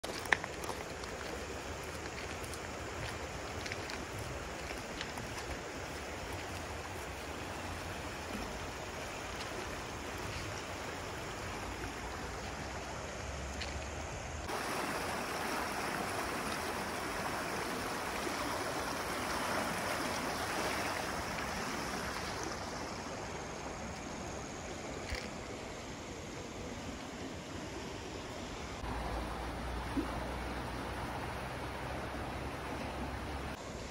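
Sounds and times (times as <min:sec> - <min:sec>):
floodwater rushing over rocks: 0:00.0 - 0:33.9.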